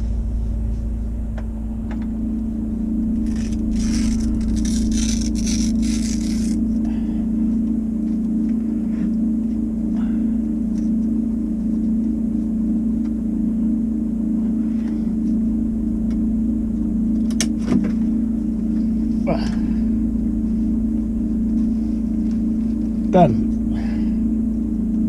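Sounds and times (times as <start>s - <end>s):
low machine hum: 0.0s - 25.0s
low rumble: 0.0s - 25.0s.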